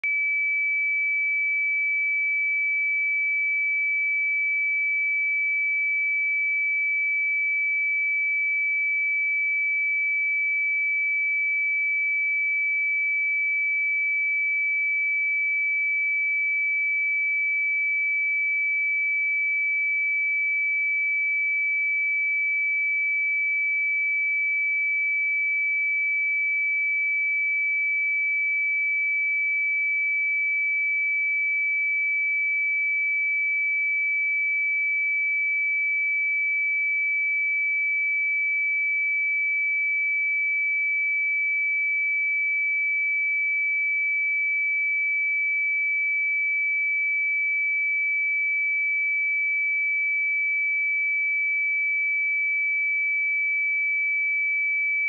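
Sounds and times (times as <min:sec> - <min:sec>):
high-pitched sine test tone: 0:00.0 - 0:55.0.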